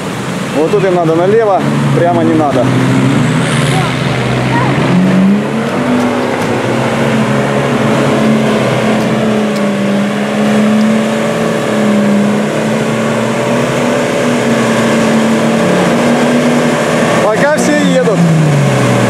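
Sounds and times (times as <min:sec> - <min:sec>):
off-road vehicle engines droning: 0:00.0 - 0:19.0.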